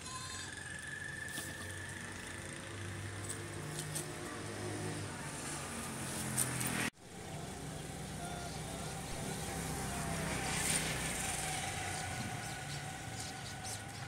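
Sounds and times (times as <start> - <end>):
vehicle engine running: 0.5 - 14.0.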